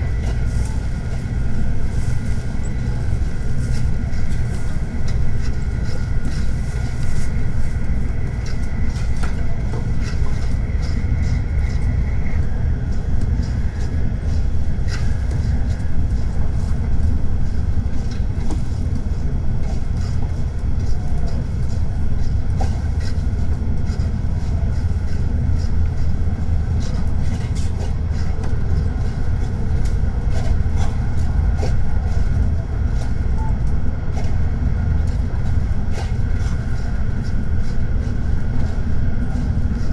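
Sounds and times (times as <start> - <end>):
train running low rumble: 0.0 - 39.9.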